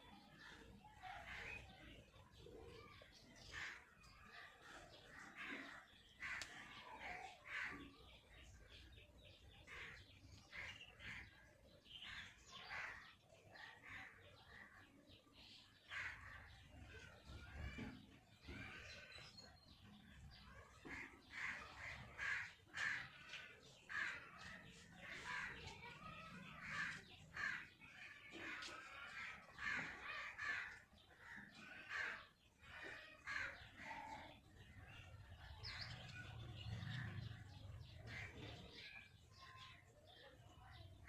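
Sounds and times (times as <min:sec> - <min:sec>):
birds calling: 0:00.0 - 0:41.0.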